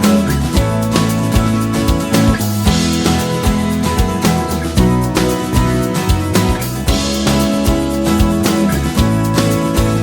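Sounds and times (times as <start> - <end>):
upbeat music with acoustic guitar: 0.0 - 10.0.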